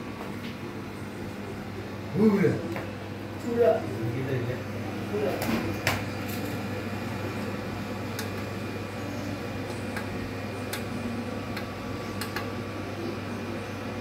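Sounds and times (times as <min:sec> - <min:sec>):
low hum of generator: 0:00.0 - 0:14.0.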